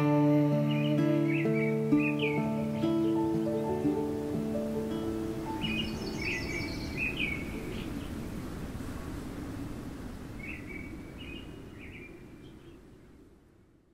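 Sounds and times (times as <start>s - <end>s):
birds chirping: 0.0s - 9.2s, 10.3s - 13.2s
steady low background noise: 0.0s - 13.9s.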